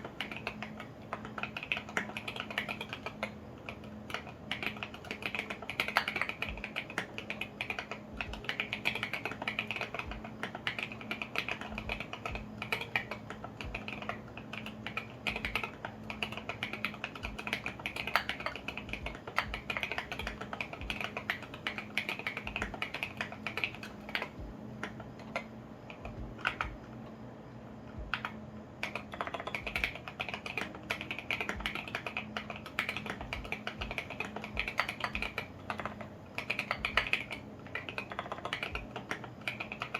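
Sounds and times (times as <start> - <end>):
mechanical keyboard keystroke clacks: 0.0 - 26.9, 28.0 - 39.9.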